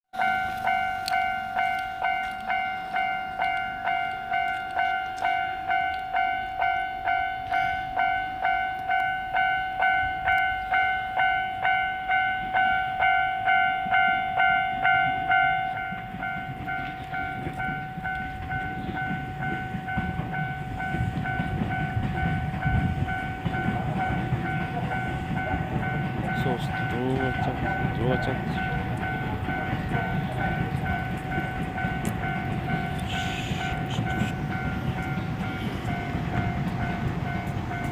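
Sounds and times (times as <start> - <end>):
level-crossing bell ringing: 0.2 - 37.9
train rumble: 0.2 - 37.9.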